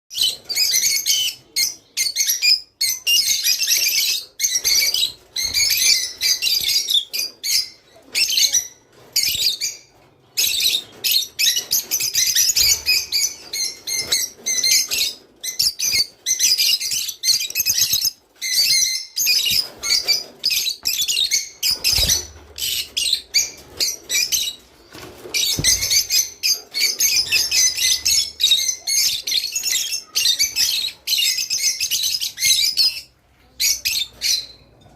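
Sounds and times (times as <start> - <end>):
lovebirds chirping and chattering: 0.1 - 34.9.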